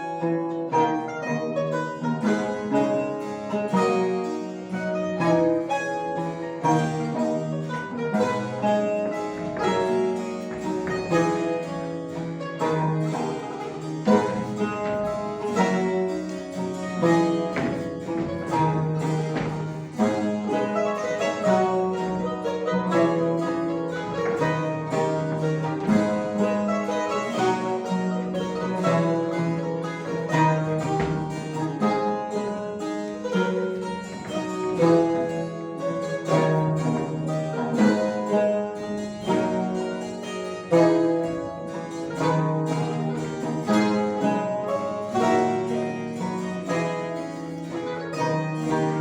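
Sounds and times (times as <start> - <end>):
mandolin ensemble playing: 0.0 - 49.0.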